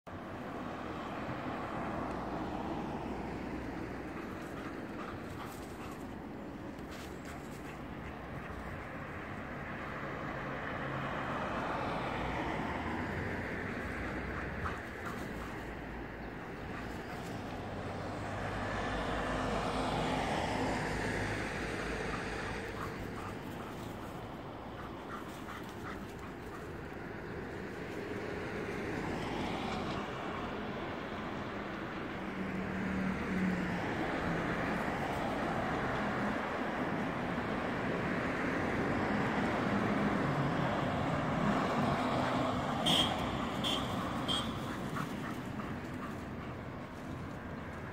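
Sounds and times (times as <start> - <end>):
road traffic noise: 0.0 - 47.9
passing vehicle engine rush: 0.1 - 47.9.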